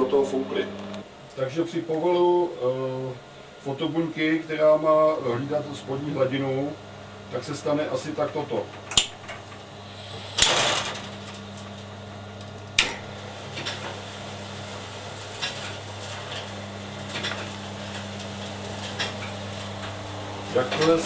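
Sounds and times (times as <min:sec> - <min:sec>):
auger drive humming: 0:00.0 - 0:01.4, 0:05.3 - 0:21.0.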